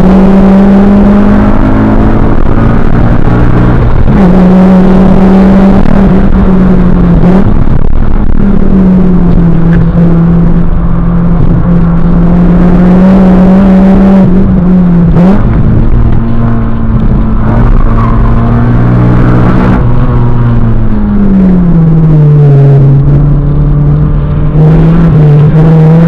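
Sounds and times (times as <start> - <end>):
car engine pulling hard: 0.0 - 26.0
road and wind noise: 0.0 - 26.0.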